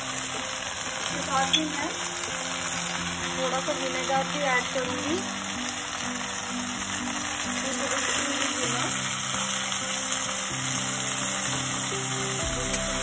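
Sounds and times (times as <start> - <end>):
soft background music: 0.0 - 13.0
vegetables sizzling in oil: 0.0 - 13.0.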